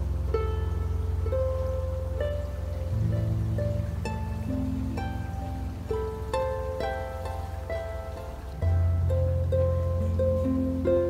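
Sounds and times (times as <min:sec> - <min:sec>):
held low bass: 0:00.0 - 0:11.0
plucked string melody: 0:00.0 - 0:11.0.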